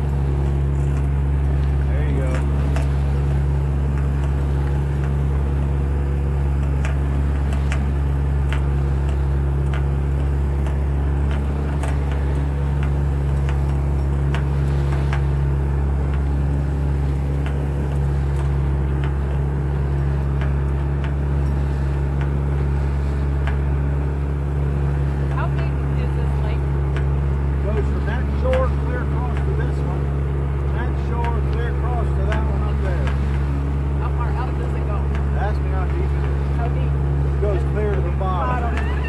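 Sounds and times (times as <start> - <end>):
boat motor humming: 0.0 - 39.0
rushing water: 0.0 - 39.0.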